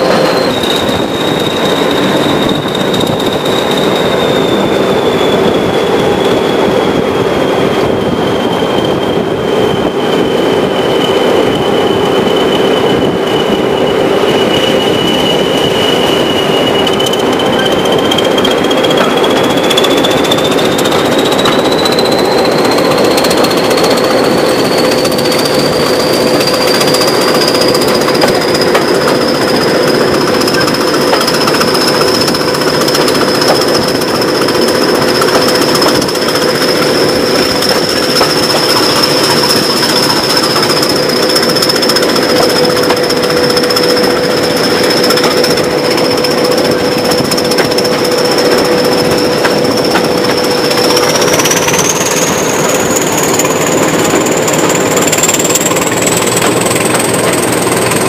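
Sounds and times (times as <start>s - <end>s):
diesel locomotive engine clatter: 0.0s - 58.0s
turbocharger whistle rising: 0.0s - 58.0s.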